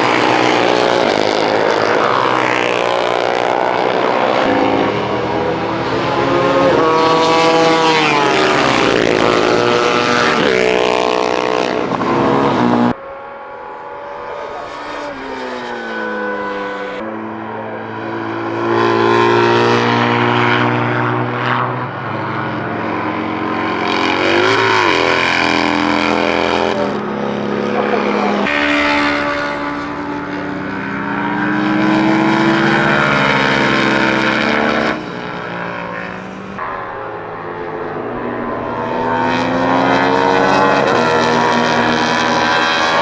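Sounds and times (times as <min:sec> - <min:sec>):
racing motorcycles passing at speed: 0:00.0 - 0:43.0.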